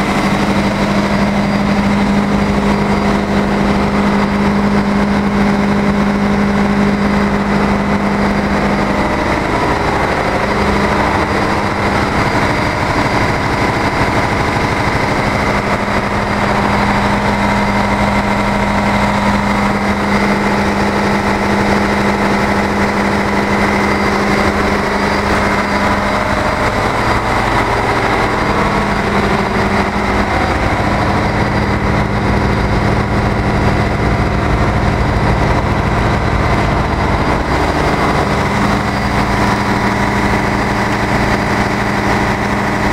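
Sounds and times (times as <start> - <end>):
deep machinery hum: 0.0 - 42.9
engine room machinery din: 0.0 - 42.9.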